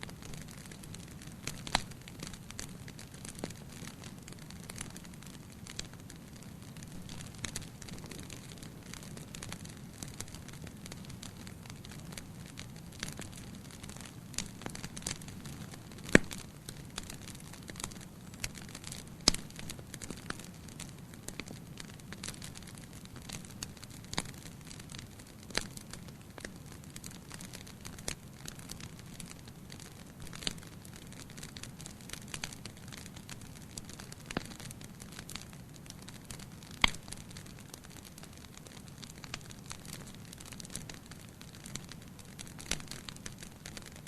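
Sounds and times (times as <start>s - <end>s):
burning wood popping: 0.0s - 44.0s
campfire crackling: 0.0s - 44.0s.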